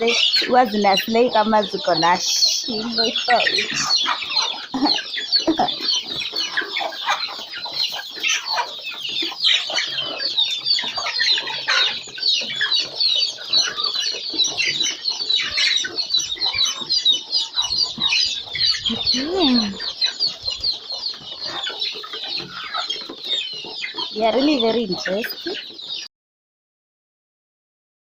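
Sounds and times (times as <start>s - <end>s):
chickens clucking: 0.0s - 26.1s.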